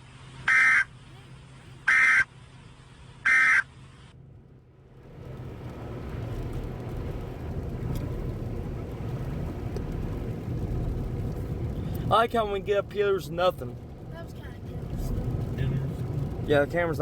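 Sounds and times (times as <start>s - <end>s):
truck engine and tyre noise: 0.0s - 17.0s.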